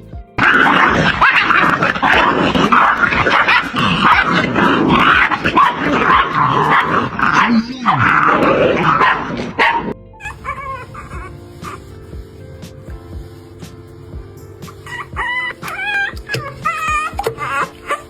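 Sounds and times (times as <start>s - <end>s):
puppies yapping and growling: 0.4s - 11.9s, 14.9s - 18.0s.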